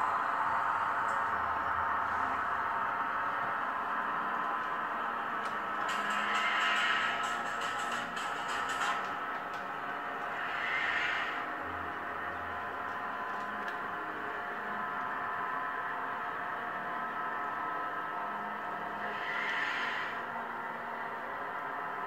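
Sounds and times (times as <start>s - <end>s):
model train rolling hum: 0.0s - 22.0s.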